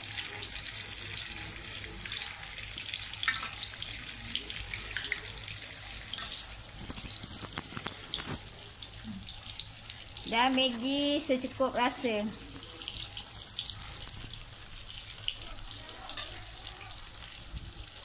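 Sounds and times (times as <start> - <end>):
beans sizzling in a wok: 0.0 - 18.0.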